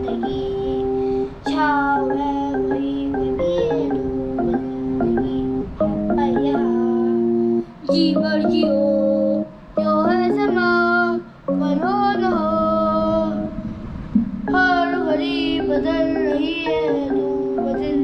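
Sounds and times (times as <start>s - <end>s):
child singing: 0.0s - 13.6s, 14.5s - 18.0s
electronic keyboard chords: 0.0s - 18.0s.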